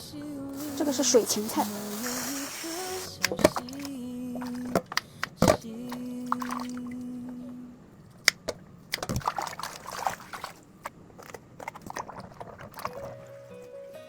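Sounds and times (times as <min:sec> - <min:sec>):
water splashing and trickling: 0:00.6 - 0:07.3, 0:08.1 - 0:13.7.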